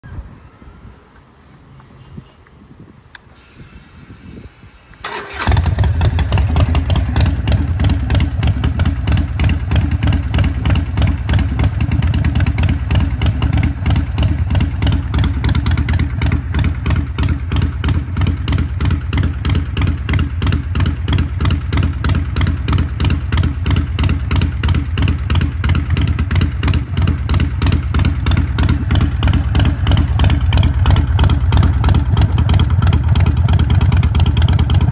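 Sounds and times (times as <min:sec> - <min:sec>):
motorcycle engine cranking: 0:05.0 - 0:34.9
motorcycle engine idling: 0:05.0 - 0:34.9.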